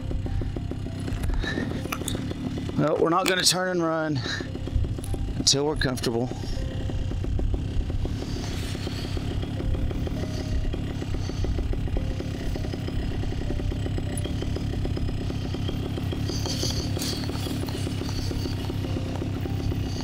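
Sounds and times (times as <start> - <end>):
two-stroke engine idling: 0.0 - 20.0.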